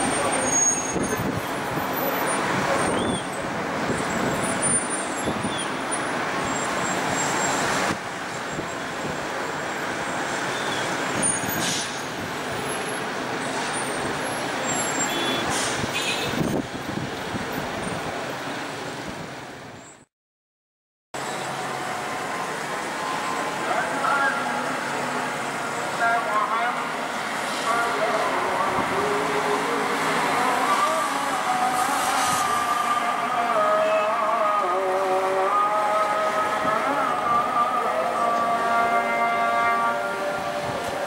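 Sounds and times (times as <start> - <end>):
city traffic din: 0.0 - 20.1, 21.2 - 41.0.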